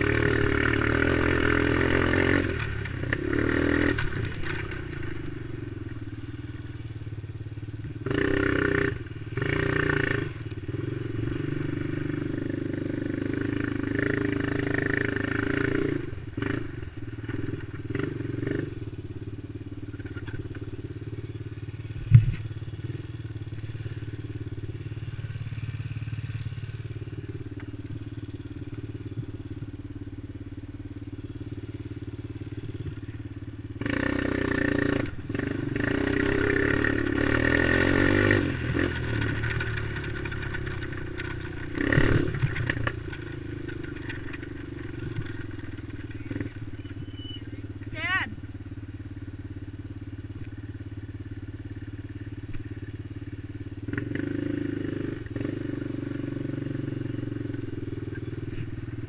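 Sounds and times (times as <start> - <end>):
quad engine running: 0.0 - 59.0.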